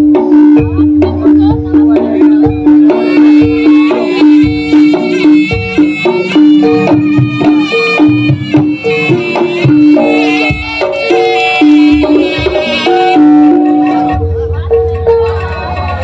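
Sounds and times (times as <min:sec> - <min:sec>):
gamelan music: 0:00.0 - 0:16.0
hand drum strokes: 0:00.0 - 0:16.0
high reedy wavering melody: 0:00.0 - 0:16.0.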